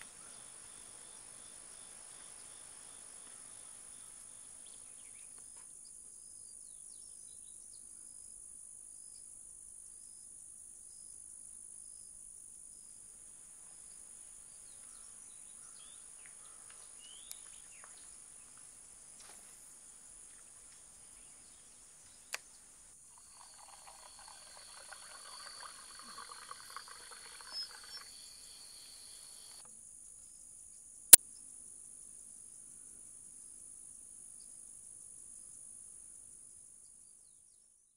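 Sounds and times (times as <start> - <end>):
crickets and insects chirping: 0.0 - 30.9.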